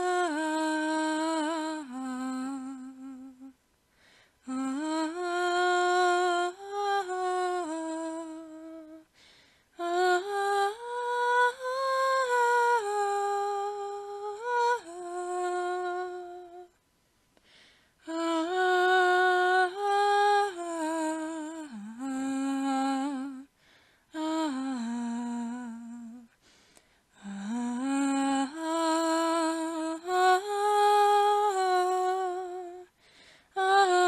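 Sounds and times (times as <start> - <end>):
person humming a slow melody: 0.0 - 3.6, 4.4 - 16.8, 18.0 - 26.4, 27.1 - 34.0.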